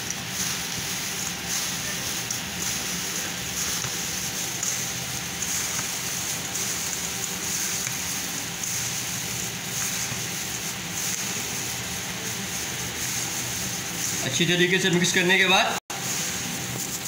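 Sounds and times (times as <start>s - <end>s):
steady hiss and hum: 0.0s - 17.0s.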